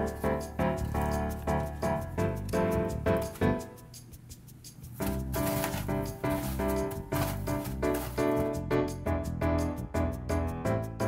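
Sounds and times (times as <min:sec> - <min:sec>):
background music over steady bass: 0:00.0 - 0:11.0.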